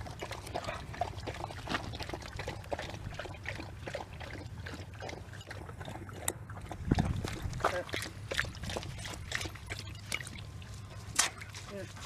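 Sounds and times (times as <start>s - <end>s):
dog lapping water: 0.0s - 12.0s.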